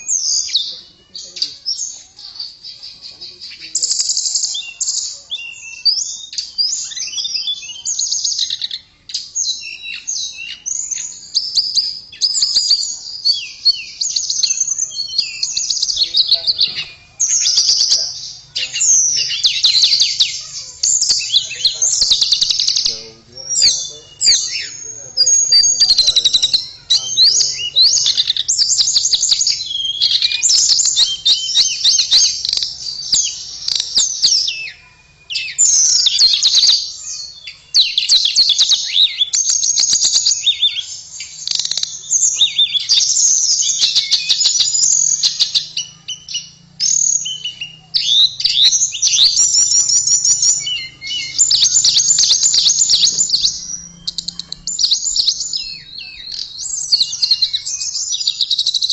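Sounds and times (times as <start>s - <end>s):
bird warbling song: 0.0s - 58.9s.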